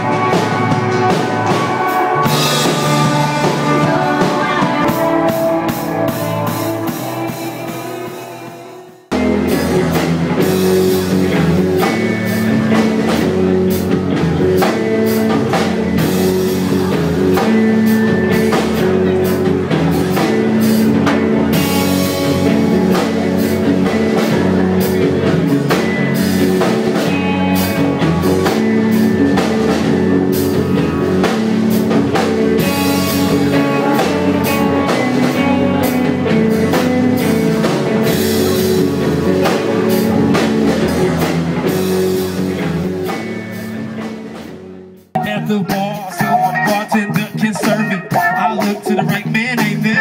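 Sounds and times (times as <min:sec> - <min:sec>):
drum kit beat: 0:00.0 - 0:50.0
electric guitar: 0:00.0 - 0:50.0
rock band playing: 0:00.0 - 0:50.0.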